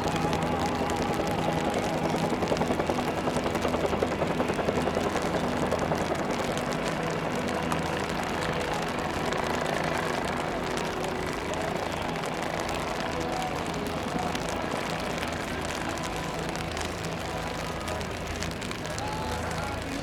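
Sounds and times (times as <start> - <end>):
helicopter rotor chop: 0.0 - 20.0.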